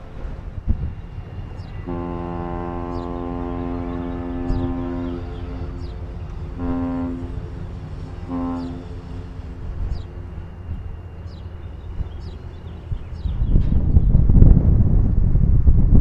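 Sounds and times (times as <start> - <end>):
ship's horn blasts: 0.0 - 13.2.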